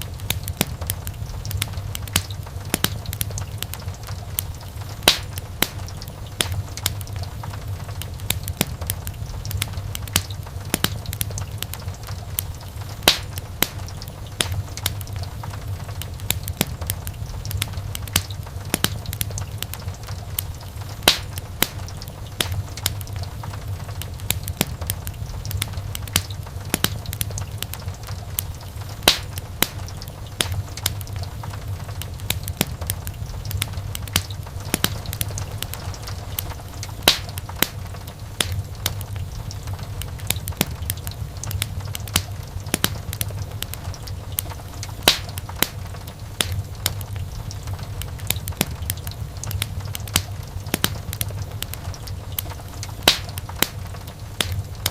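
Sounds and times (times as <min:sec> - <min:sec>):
fire crackling pops: 0:00.0 - 0:54.9
flames low rumble: 0:00.0 - 0:54.9
sharp wood snaps: 0:00.1 - 0:54.9.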